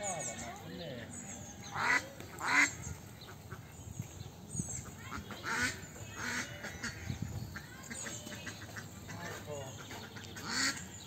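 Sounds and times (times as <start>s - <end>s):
ducks quacking: 0.0s - 3.8s, 4.8s - 11.0s.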